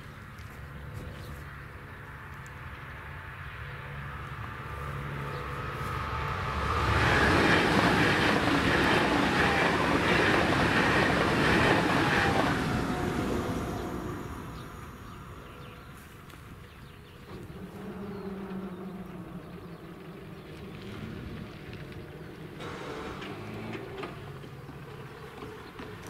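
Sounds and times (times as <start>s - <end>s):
wheel and rail noise: 0.0s - 26.0s
train passing at speed: 1.5s - 26.0s.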